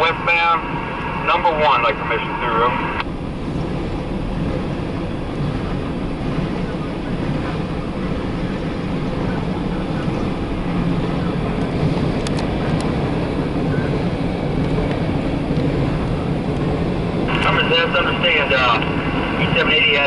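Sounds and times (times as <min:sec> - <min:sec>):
steel wheels rolling on track: 0:02.1 - 0:20.0.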